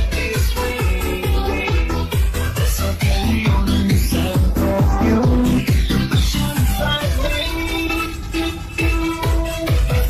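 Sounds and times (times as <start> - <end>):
electronic dance music: 0.0 - 10.0
fast kick-drum beat: 0.0 - 10.0.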